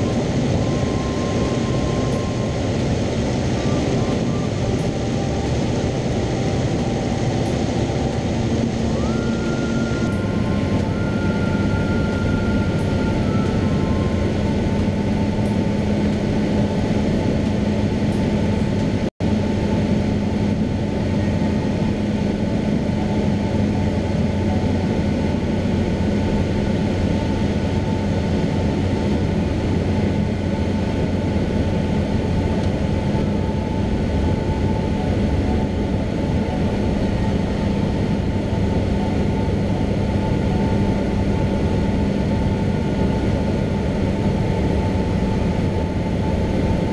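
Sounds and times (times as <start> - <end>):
airplane engine drone in cabin: 0.0 - 46.9.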